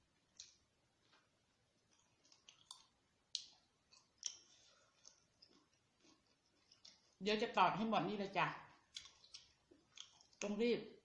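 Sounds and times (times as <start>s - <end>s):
mouth chewing with soft smacks: 0.2s - 7.3s, 8.7s - 10.6s.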